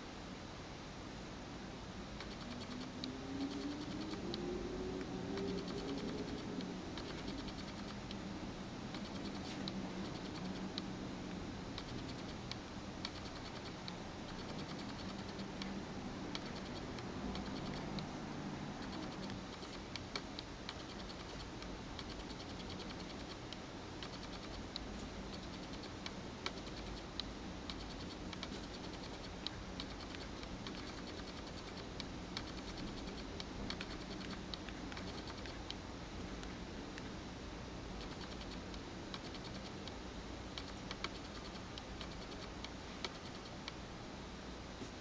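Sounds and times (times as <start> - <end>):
steady low hum: 0.0 - 45.0
fingertips tapping on touchscreen: 2.2 - 8.3, 8.9 - 37.2, 38.0 - 43.9.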